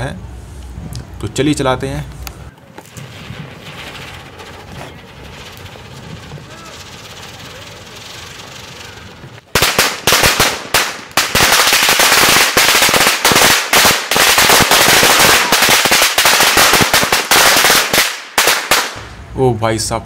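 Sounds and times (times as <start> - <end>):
spinning firework hissing: 2.1 - 19.2
firecrackers banging: 2.1 - 19.3.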